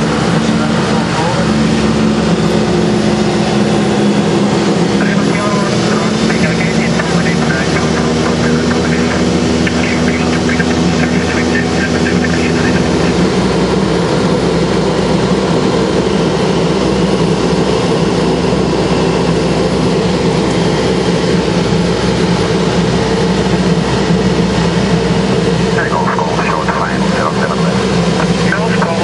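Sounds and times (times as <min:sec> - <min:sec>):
turboprop engine drone in cabin: 0:00.0 - 0:29.0.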